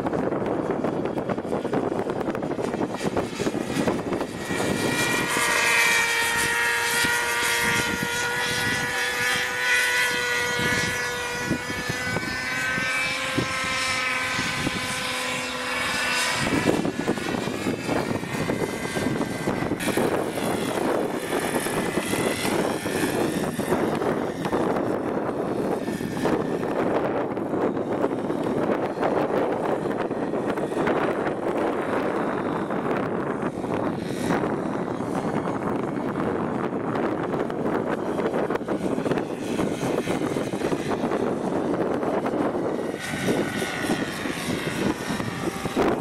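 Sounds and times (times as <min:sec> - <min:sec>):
model helicopter rotor whine: 0:00.0 - 0:46.0
wind buffeting microphone: 0:00.0 - 0:46.0.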